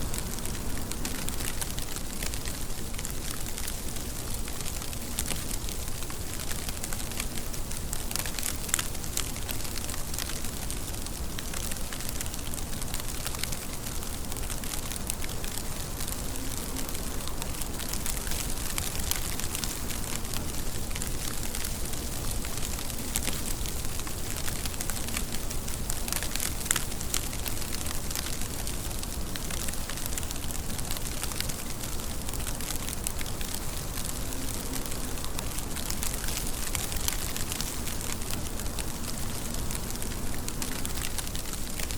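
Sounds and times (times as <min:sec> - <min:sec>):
raindrops ticking: 0:00.0 - 0:41.9
steady rain hissing: 0:00.0 - 0:41.9.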